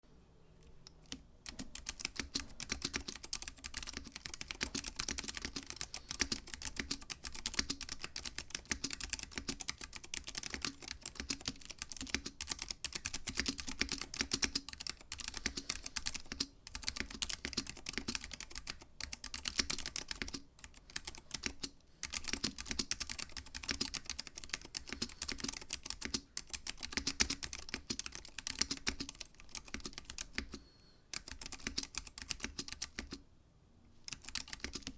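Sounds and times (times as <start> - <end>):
fast typing on mechanical keyboard: 1.0 - 33.2, 34.0 - 34.9.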